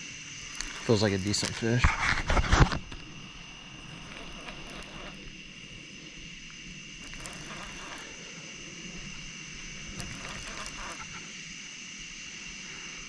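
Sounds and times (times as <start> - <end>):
night insects droning: 0.0 - 13.0.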